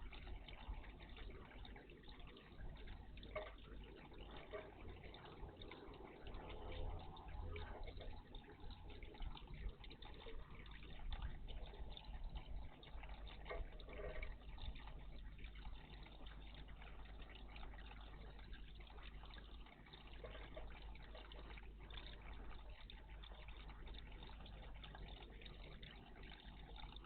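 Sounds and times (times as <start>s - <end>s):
water splashing and dripping: 0.0s - 27.0s.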